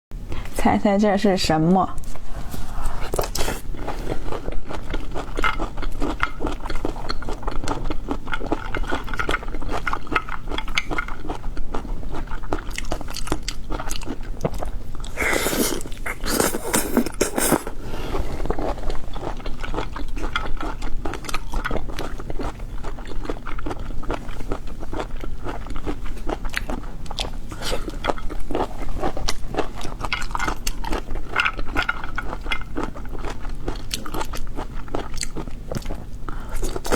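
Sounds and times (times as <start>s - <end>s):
person chewing and crunching: 3.0s - 36.9s.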